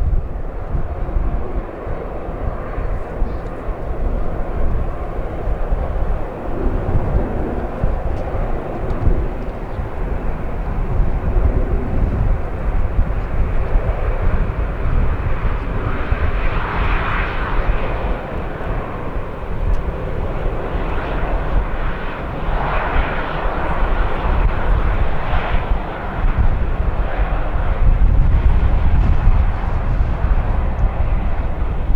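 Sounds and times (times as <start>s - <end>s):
jet engines running: 0.0s - 31.9s
wind buffeting microphone: 0.0s - 31.9s.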